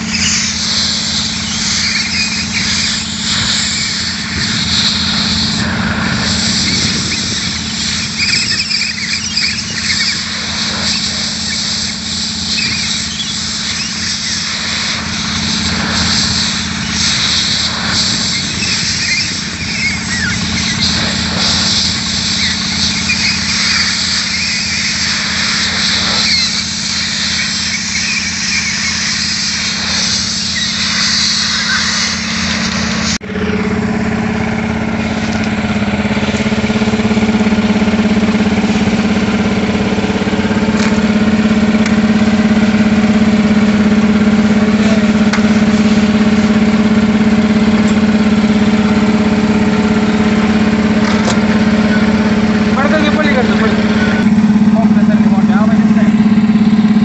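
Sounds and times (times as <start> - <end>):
compressed air hissing from hose: 0.0 - 33.2, 36.2 - 57.0
engine running steadily: 0.0 - 57.0.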